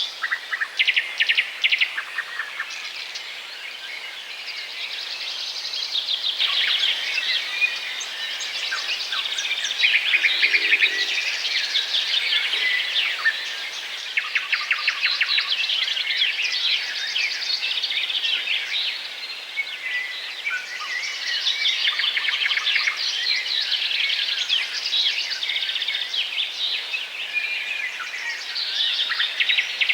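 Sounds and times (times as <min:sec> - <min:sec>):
songbirds chirping and twittering: 0:00.0 - 0:29.9.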